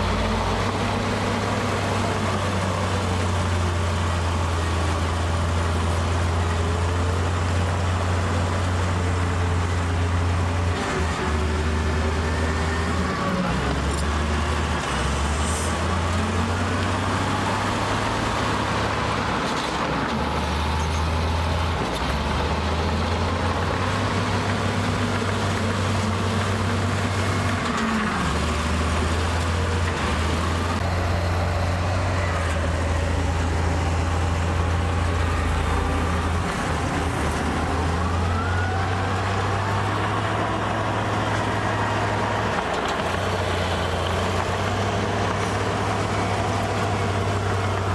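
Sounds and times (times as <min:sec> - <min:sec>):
diesel machinery engine drone: 0:00.0 - 0:47.9.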